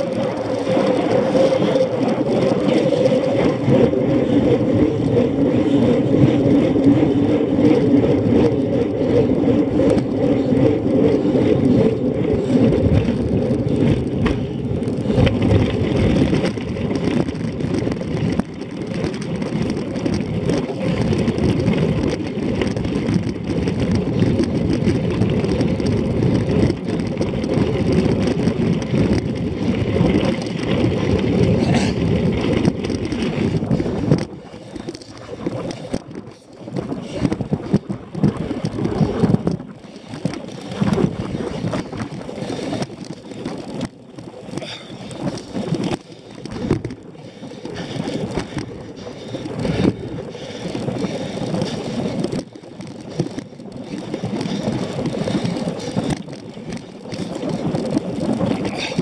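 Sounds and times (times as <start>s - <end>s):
bike tyres rumbling on gravel: 0.0s - 59.0s
wind on the microphone: 0.0s - 59.0s.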